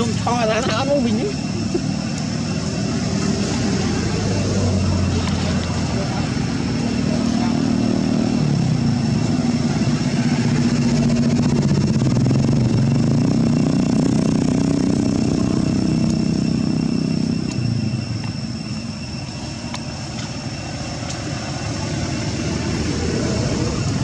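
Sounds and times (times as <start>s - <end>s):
motor engine rumbling: 0.0s - 24.0s.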